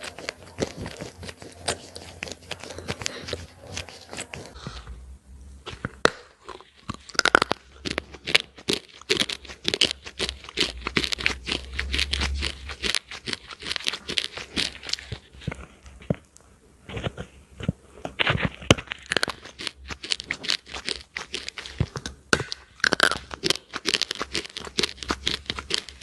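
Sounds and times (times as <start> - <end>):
crunchy chewing: 0.0 - 4.8, 5.7 - 26.0.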